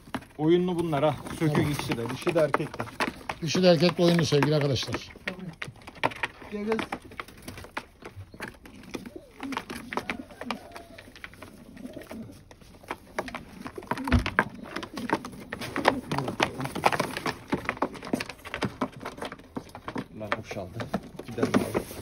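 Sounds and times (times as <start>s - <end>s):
scuffling and clicking: 0.0s - 22.0s
pigeons cooing: 1.0s - 20.2s.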